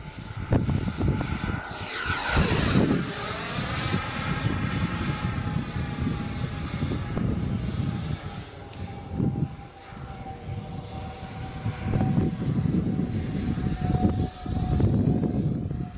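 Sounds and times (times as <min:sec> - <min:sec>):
model jet fan whining: 0:00.0 - 0:15.9.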